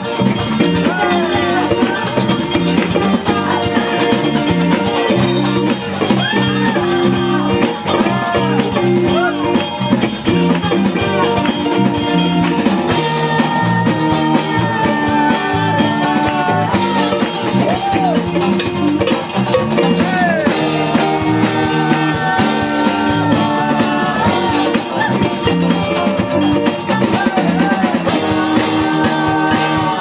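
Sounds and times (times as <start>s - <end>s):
bass: 0.0s - 30.0s
drums: 0.0s - 30.0s
electric guitar: 0.0s - 30.0s
person singing: 0.0s - 30.0s.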